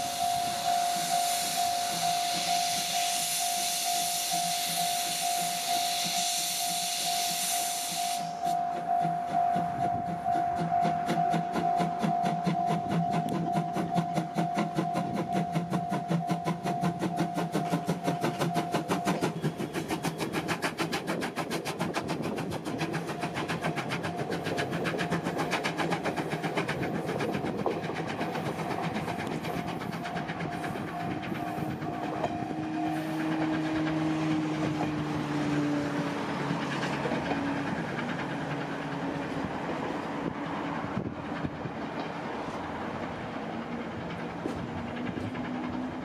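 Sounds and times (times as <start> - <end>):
steam locomotive chuffing: 0.0 - 46.0
train wheels clattering on rails: 0.0 - 46.0.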